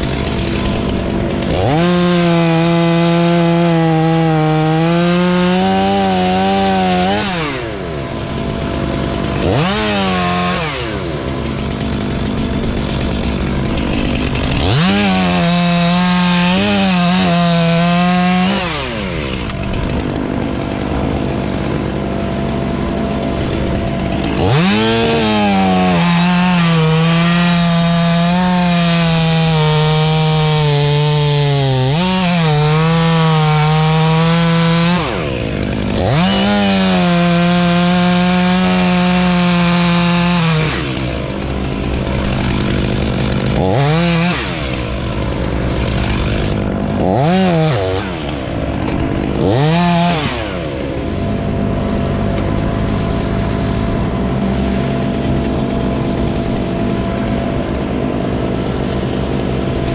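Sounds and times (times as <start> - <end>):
chainsaw at full throttle: 0.0 - 59.9.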